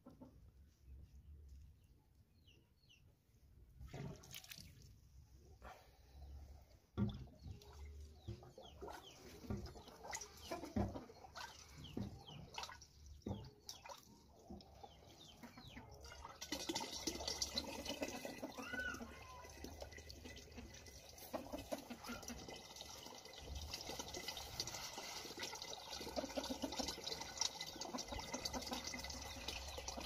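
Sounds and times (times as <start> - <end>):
water gurgling in plastic barrel: 3.8 - 4.9, 7.0 - 30.0.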